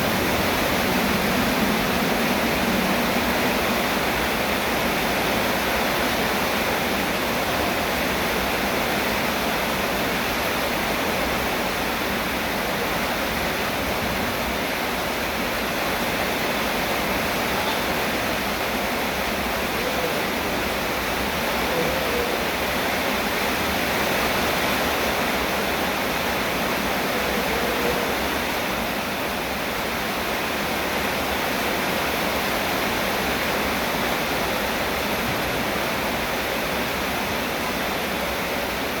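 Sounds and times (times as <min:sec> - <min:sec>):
steady rainfall: 0:00.0 - 0:39.0.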